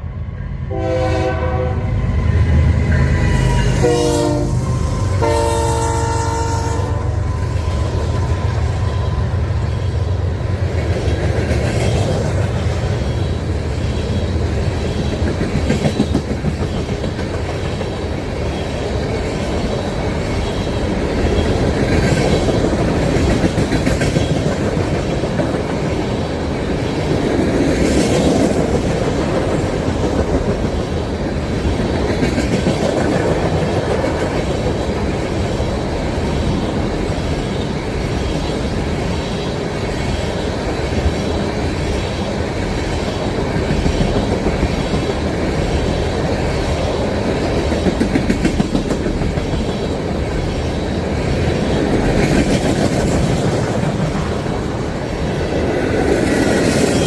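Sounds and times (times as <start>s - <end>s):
train wheels clickety-clack: 7.3s - 57.0s.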